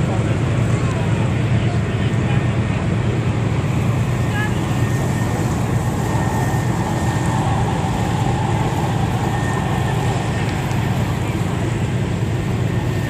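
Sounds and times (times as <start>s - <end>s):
ferry engines rumbling: 0.0s - 13.0s
water rushing: 0.0s - 13.0s
wind: 0.0s - 13.0s.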